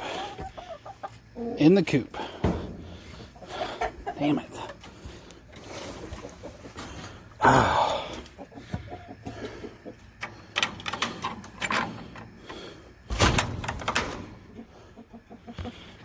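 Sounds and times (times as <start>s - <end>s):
hens clucking: 0.0s - 13.1s, 14.0s - 16.0s.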